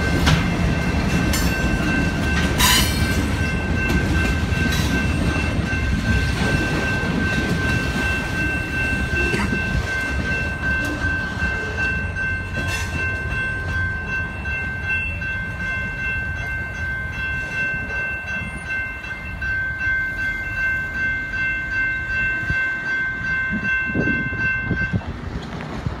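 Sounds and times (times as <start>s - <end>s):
crossing bells ringing: 0.0s - 25.6s
train rumbling past: 0.0s - 26.0s.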